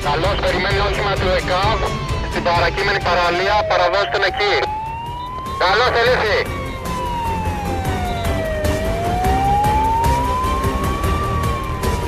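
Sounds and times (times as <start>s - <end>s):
ambulance siren wailing: 0.0s - 12.0s.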